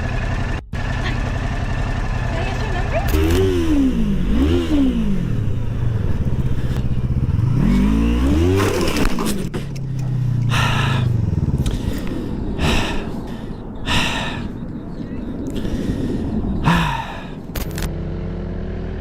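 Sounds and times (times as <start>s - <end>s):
motorcycle engine revving: 0.0s - 14.5s, 15.4s - 19.0s.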